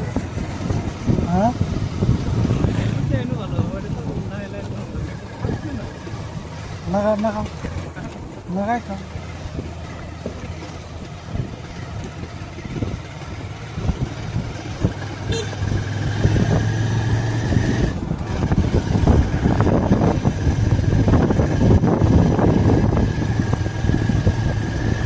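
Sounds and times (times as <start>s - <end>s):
motorcycle engine running: 0.0s - 25.0s
road and wind noise: 0.0s - 25.0s.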